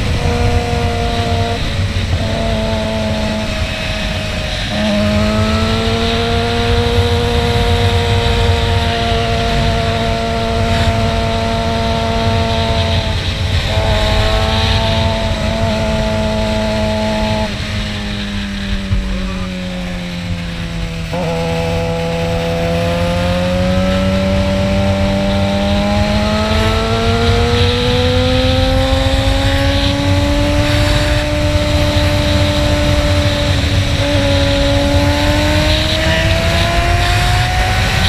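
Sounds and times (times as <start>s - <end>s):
motorcycle engine cruising: 0.0s - 38.0s
wind rumble on microphone: 0.0s - 38.0s.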